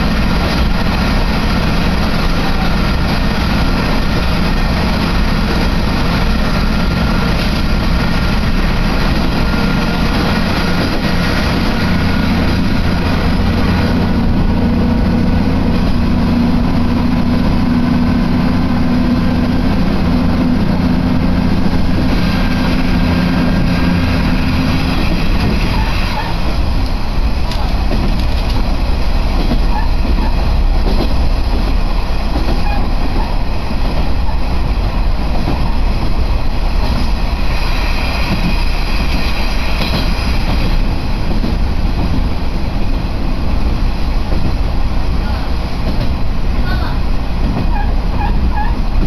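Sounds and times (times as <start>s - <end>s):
engine drone: 0.0s - 49.0s
train running noise: 0.0s - 49.0s.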